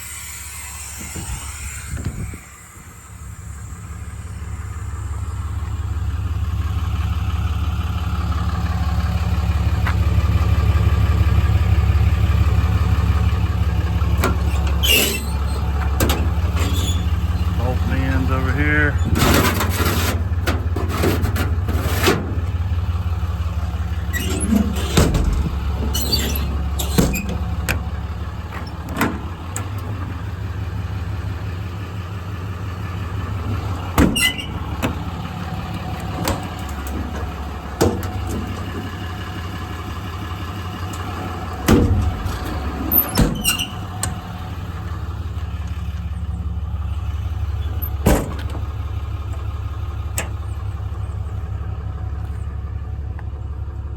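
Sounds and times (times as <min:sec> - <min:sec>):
engine idling: 0:00.0 - 0:53.9.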